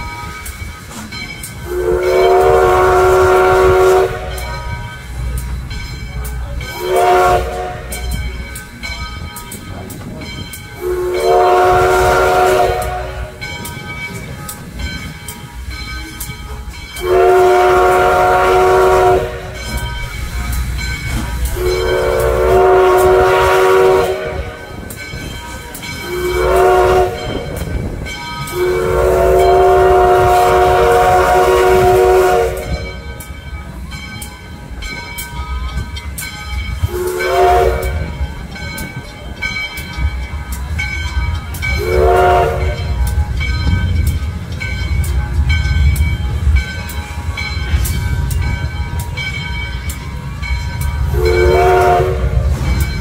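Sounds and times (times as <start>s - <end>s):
steam train chime whistle: 0.0s - 53.0s
train running rumble: 0.0s - 53.0s.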